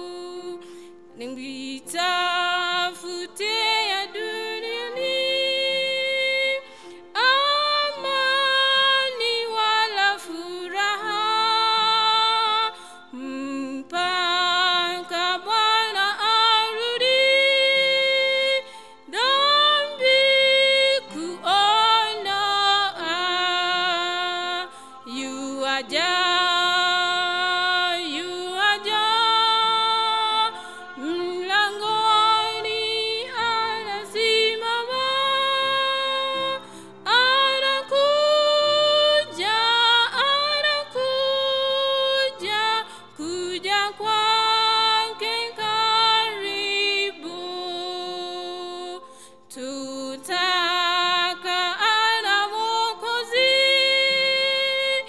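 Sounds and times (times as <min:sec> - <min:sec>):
woman singing a hymn: 0:00.0 - 0:55.0.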